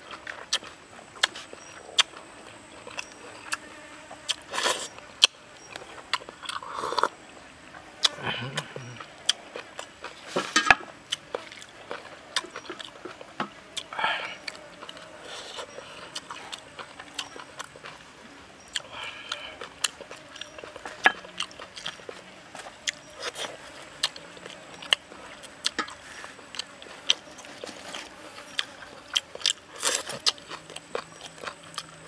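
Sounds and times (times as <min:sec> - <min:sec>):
person chewing: 0:00.0 - 0:07.2, 0:08.0 - 0:32.0.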